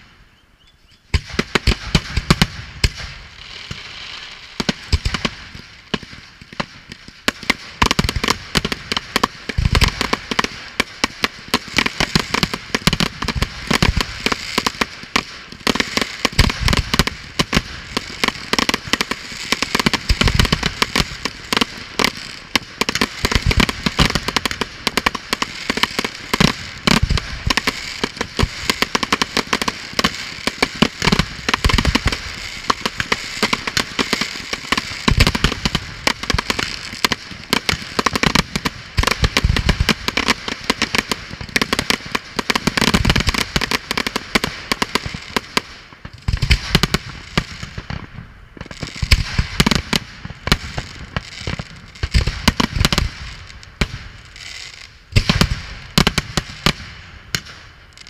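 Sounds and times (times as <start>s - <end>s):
steady hiss: 0.0s - 58.0s
fireworks cracks and bangs: 1.1s - 58.0s.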